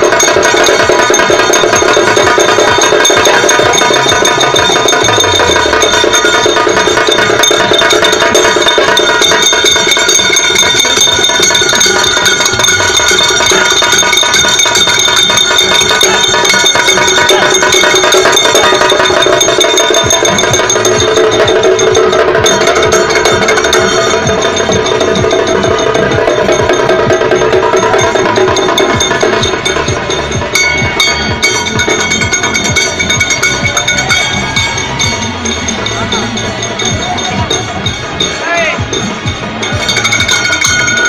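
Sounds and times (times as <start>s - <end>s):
barrel drums beaten with sticks: 0.0s - 41.0s
large hand cymbals ringing: 0.0s - 41.0s.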